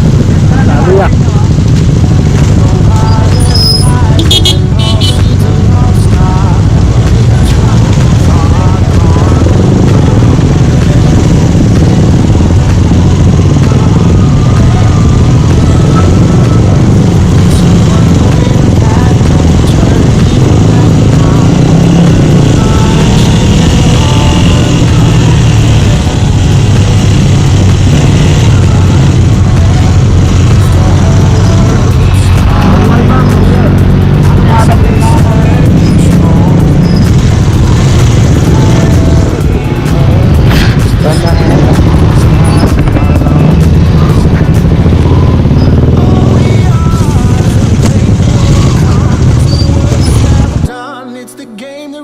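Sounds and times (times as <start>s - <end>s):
motorcycle engine running: 0.0s - 50.7s
rushing wind noise: 0.0s - 50.7s
background music with singing: 0.0s - 52.0s.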